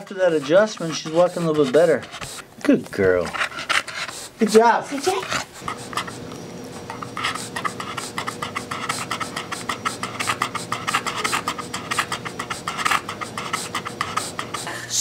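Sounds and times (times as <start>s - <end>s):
dog panting rapidly: 0.0s - 2.5s, 3.2s - 15.0s.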